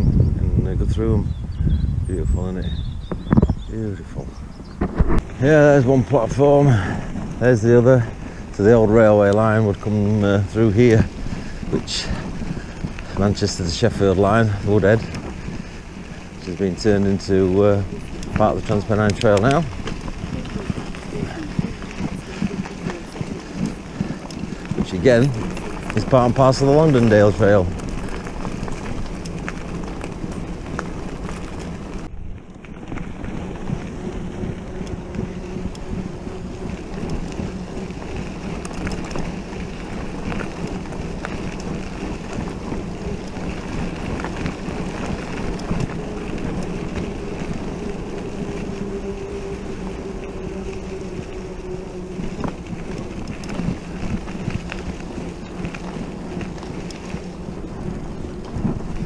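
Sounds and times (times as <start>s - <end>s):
bike tyres rolling on gravel: 0.0s - 59.0s
wind buffeting microphone: 0.0s - 59.0s.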